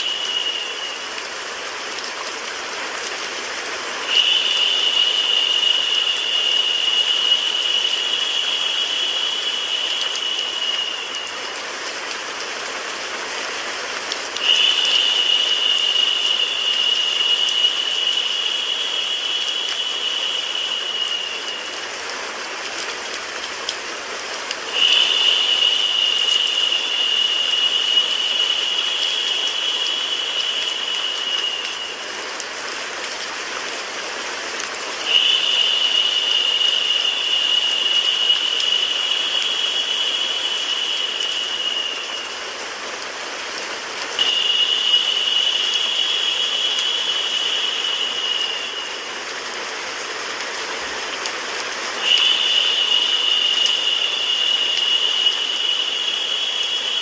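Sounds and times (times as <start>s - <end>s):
high-pitched hiss: 0.0s - 57.0s
rain-like white noise: 0.0s - 57.0s.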